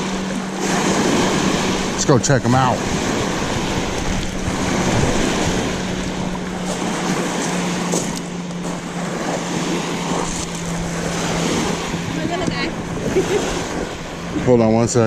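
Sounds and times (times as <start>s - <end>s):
waves breaking on gravel shore: 0.0s - 14.5s
steady low hum: 0.0s - 15.0s
wind buffeting microphone: 0.0s - 15.0s.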